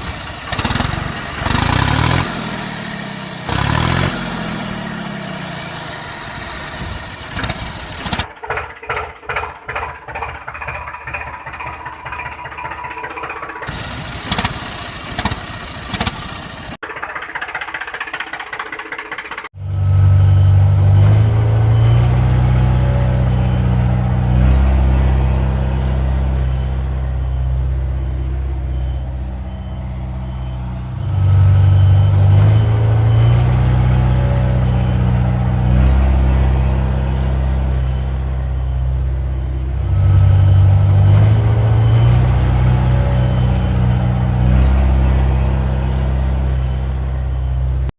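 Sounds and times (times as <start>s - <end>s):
tractor engine: 0.0s - 47.9s.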